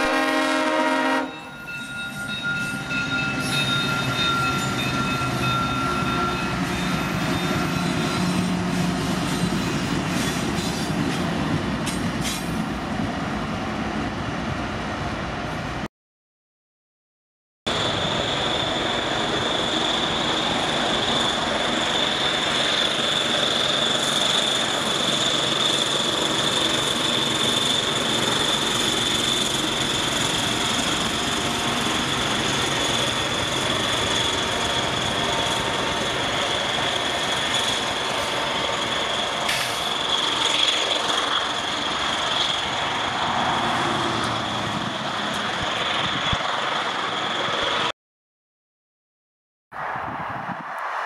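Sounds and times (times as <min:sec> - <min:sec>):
diesel locomotives rolling past: 0:00.0 - 0:15.9, 0:17.7 - 0:47.9.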